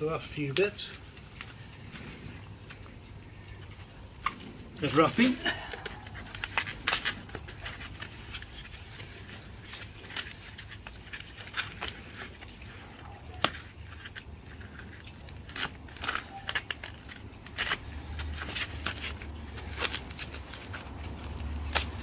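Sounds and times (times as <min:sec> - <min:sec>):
packing wrap crinkling: 0:00.0 - 0:22.0.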